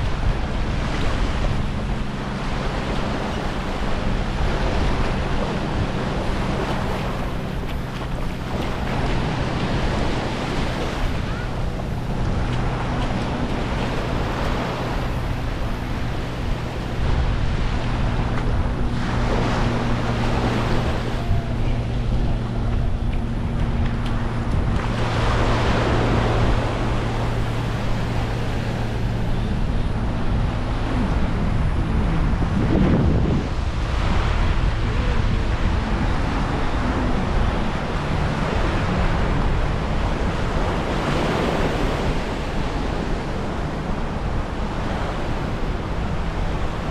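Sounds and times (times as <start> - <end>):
low steady hum: 0.0 - 46.9
small waves washing onto beach: 0.0 - 46.9
wind buffeting microphone: 0.0 - 46.9.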